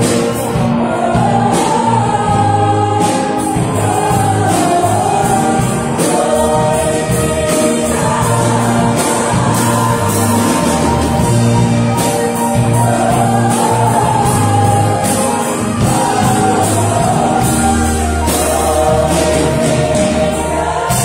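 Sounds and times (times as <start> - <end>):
choir singing in harmony: 0.0 - 21.0
live band playing: 0.0 - 21.0.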